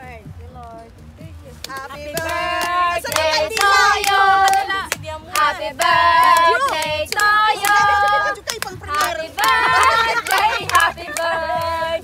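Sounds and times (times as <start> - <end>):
hands clapping in time: 1.5 - 12.0
women singing together: 1.6 - 12.0.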